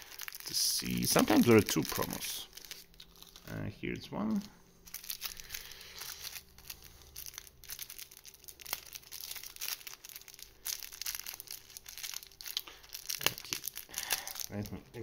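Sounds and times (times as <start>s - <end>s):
plastic wrapper crinkling: 0.0s - 3.6s, 4.2s - 15.0s.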